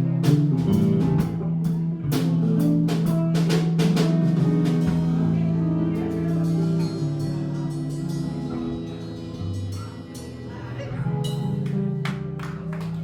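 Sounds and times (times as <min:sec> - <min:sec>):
live band ringing chords: 0:00.0 - 0:13.0.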